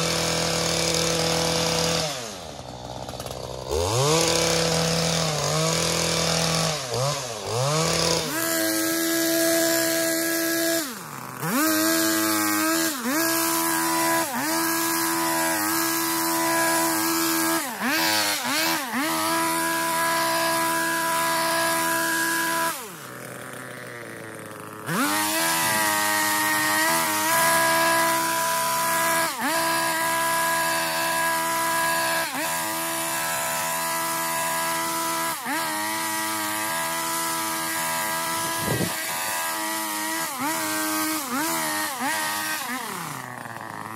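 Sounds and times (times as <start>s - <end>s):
petrol power tool revving: 0.0s - 43.9s.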